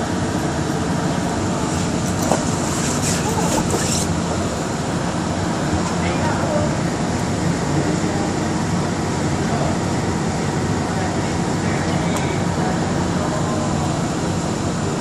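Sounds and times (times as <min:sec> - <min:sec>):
air conditioning running: 0:00.0 - 0:15.0
train car hum and rumble: 0:00.0 - 0:15.0.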